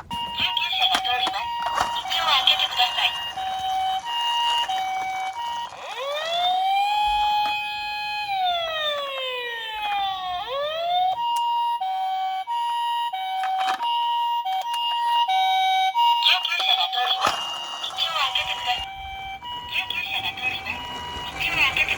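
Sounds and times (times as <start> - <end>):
ambulance siren: 0.0 - 21.9.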